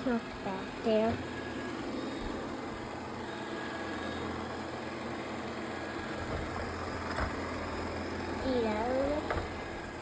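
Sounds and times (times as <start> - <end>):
robot vacuum cleaner whirring: 0.0 - 10.0.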